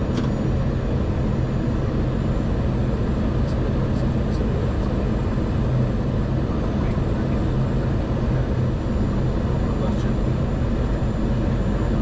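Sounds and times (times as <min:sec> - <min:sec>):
aircraft engine noise: 0:00.0 - 0:12.0.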